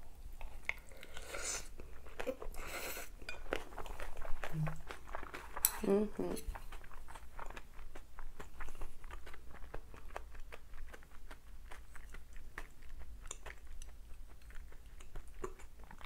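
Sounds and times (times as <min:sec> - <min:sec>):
crunchy wet chewing: 0:00.4 - 0:16.0.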